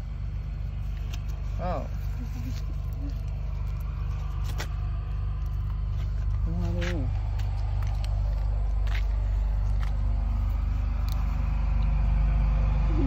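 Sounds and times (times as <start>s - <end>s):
engine running with low rumble: 0.0s - 13.0s.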